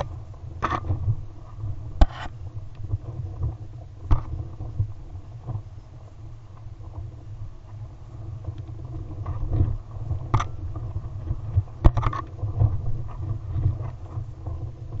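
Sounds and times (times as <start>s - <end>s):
kite fabric flapping and snapping: 0.0s - 5.7s, 6.8s - 15.0s
wind buffeting a camera: 0.0s - 15.0s.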